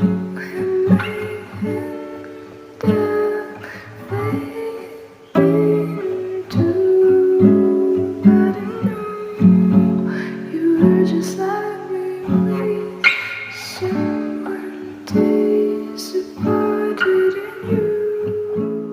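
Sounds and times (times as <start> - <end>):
acoustic guitar chords: 0.0 - 18.9.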